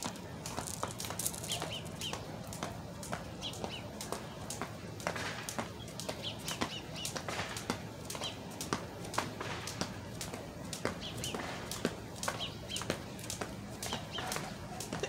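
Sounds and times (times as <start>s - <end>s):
jump rope slapping concrete: 0.0s - 15.0s
shoes landing: 0.0s - 15.0s
small birds chirping: 0.0s - 15.0s.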